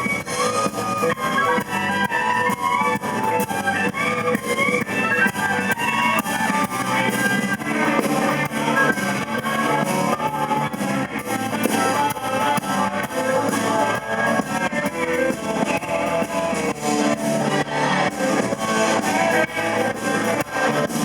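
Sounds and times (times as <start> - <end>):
blues band playing: 0.0 - 21.0
electric guitar: 0.0 - 21.0.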